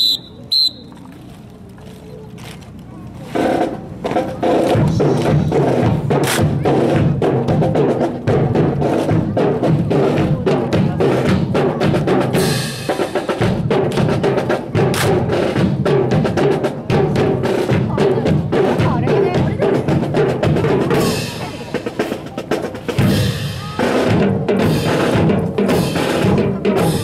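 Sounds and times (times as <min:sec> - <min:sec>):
march music with drums: 0:00.0 - 0:01.1, 0:03.1 - 0:27.0.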